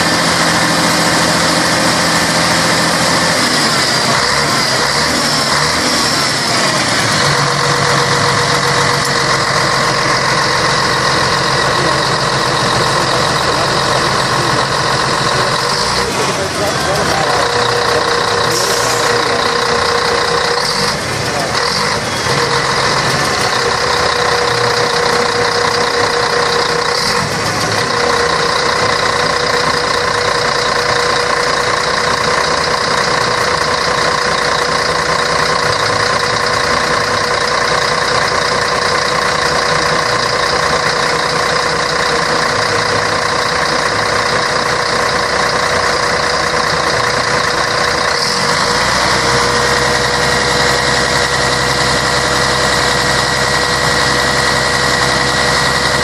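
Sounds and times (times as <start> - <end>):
diesel bus engine droning: 0.0 - 56.0.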